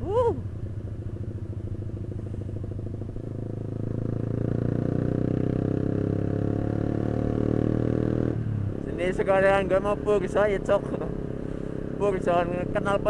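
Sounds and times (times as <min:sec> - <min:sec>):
motorcycle engine with racing exhaust: 0:00.0 - 0:13.0.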